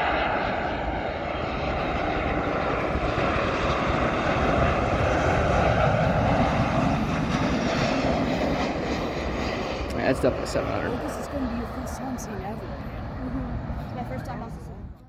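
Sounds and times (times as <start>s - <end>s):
jet airliner engines roaring: 0.0s - 15.0s.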